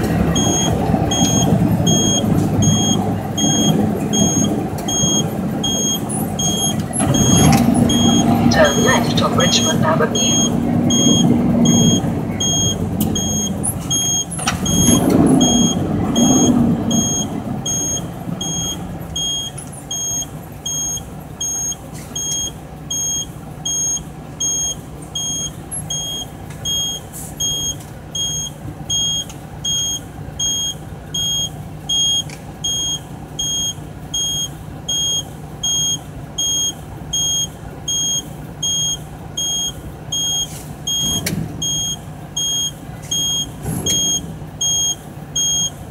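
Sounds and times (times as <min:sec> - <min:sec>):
truck diesel engine idling: 0:00.0 - 0:45.9
high electronic beep: 0:00.4 - 0:45.7.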